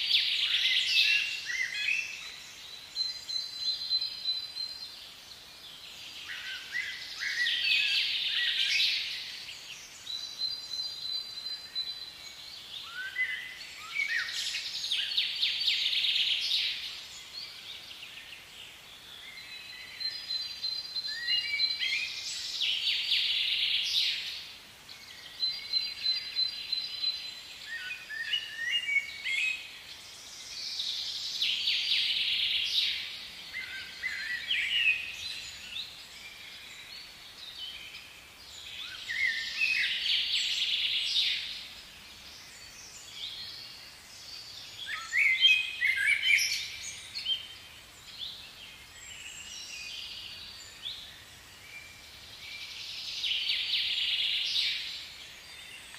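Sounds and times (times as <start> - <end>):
faint steady hiss: 0.0 - 55.9
songbirds chirping and trilling: 0.0 - 55.9.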